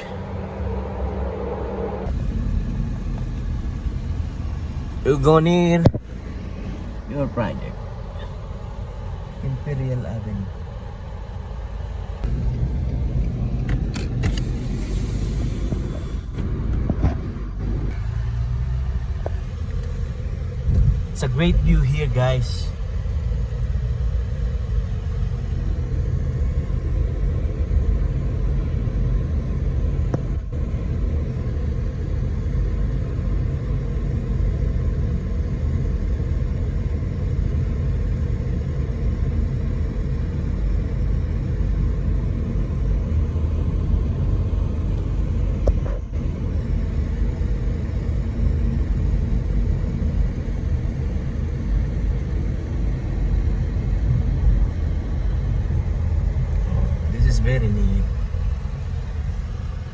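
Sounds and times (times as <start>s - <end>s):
car interior road and engine rumble: 0.0s - 59.9s.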